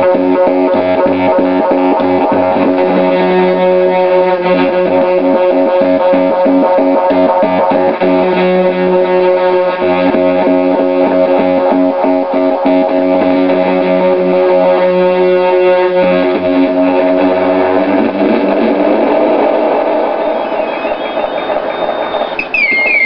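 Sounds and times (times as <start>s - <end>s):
buzzy square-wave synth drone: 0.0s - 23.0s.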